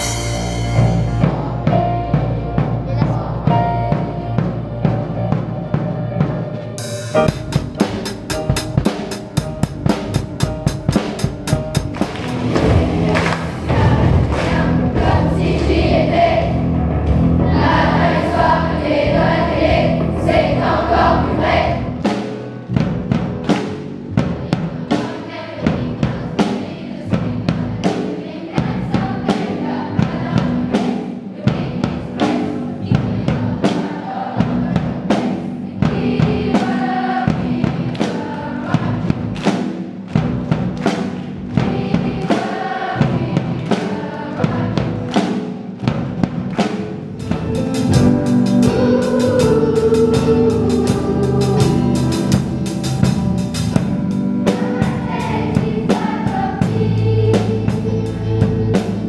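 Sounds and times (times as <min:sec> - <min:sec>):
band with drums bass keyboard: 0:00.0 - 0:59.0
children's choir singing: 0:00.0 - 0:59.0.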